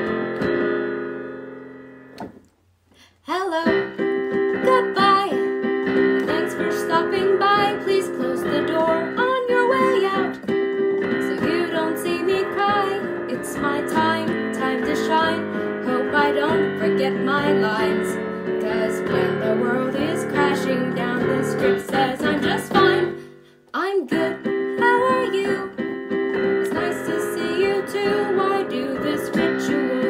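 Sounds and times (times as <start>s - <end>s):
keyboard chords: 0.0s - 2.5s, 3.6s - 23.4s, 24.1s - 30.0s.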